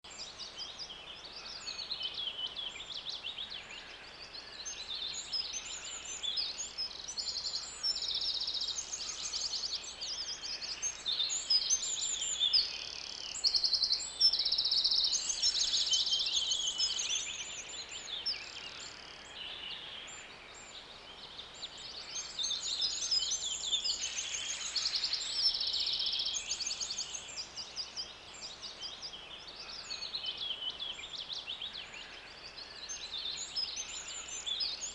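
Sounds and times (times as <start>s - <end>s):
songbird chirping: 0.0s - 34.9s.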